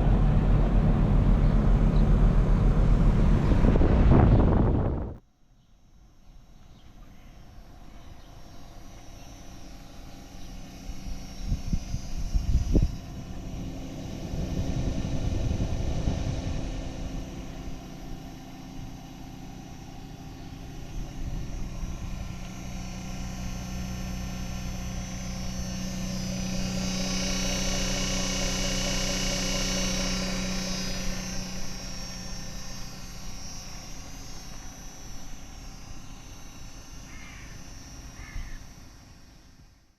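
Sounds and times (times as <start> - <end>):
heat pump fans droning: 0.0 - 39.9
high-pitched whine: 0.0 - 39.9
low hum: 0.0 - 39.9.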